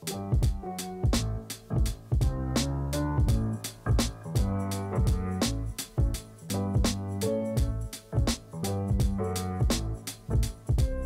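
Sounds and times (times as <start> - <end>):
drum beat with bass line music: 0.0 - 11.0.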